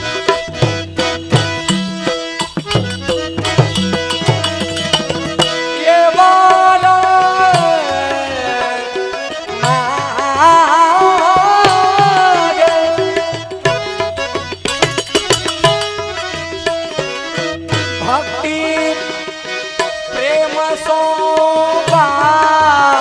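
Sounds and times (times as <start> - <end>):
wavering melody: 0.0 - 10.2, 10.9 - 19.9
tabla playing: 0.0 - 23.0.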